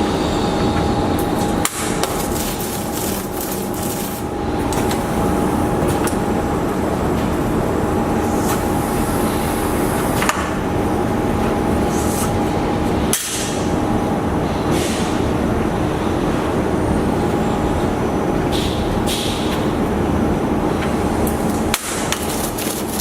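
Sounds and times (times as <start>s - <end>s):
factory machinery hum: 0.0s - 23.0s.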